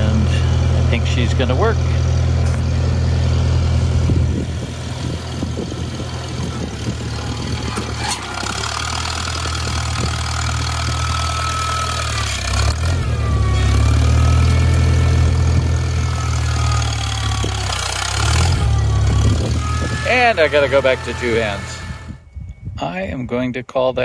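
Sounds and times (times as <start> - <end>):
tractor engine running under load: 0.0 - 22.2.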